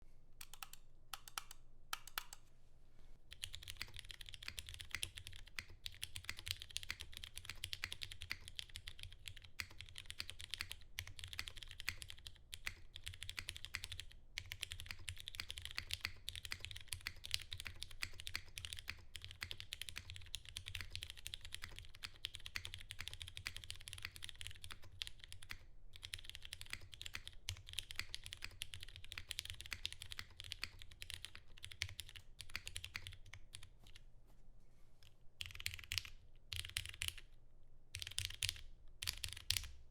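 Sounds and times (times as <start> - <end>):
mechanical keyboard typing: 0.4 - 2.4, 3.3 - 34.0, 35.4 - 37.3, 37.9 - 39.8.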